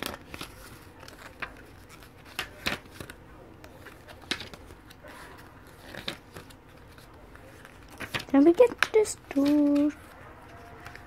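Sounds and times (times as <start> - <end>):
paper pages turning: 0.0 - 11.0.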